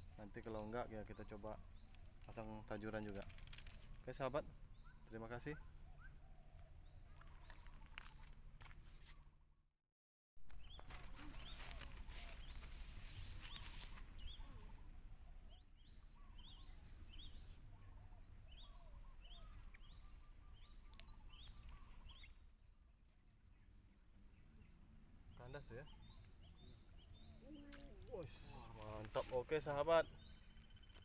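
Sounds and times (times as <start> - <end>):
small birds chirping: 0.0 - 9.4, 10.4 - 31.0.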